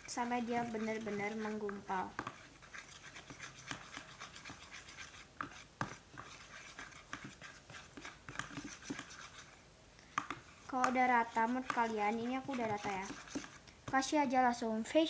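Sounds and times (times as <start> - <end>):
slime being stirred: 0.0 - 14.2.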